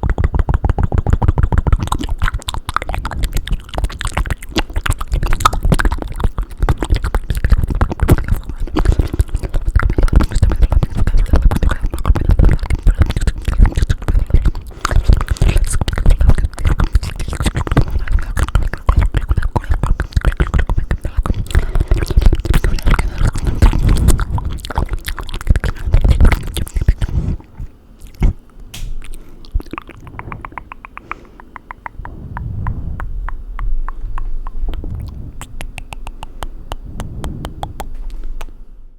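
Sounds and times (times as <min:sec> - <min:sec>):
tongue clicks: 0:00.0 - 0:27.1, 0:28.0 - 0:32.2, 0:33.0 - 0:38.6
wet mouth smacks and clicks: 0:00.0 - 0:27.1, 0:28.0 - 0:32.2, 0:33.0 - 0:36.8.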